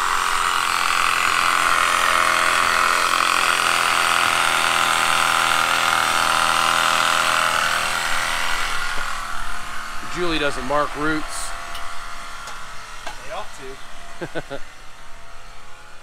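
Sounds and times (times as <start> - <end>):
power tool cutting roots: 0.0 - 16.0.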